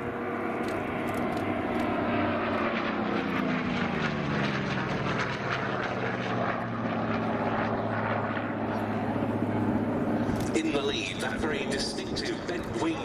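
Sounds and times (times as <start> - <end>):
propeller planes flying past: 0.0 - 13.0.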